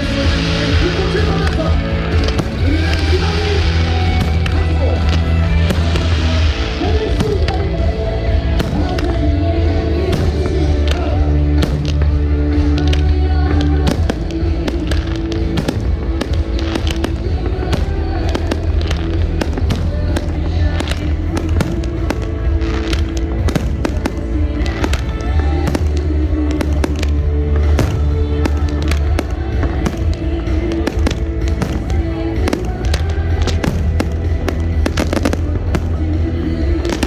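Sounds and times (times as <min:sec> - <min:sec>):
fireworks bangs: 0:00.0 - 0:37.0
loud music with heavy bass: 0:00.0 - 0:37.0.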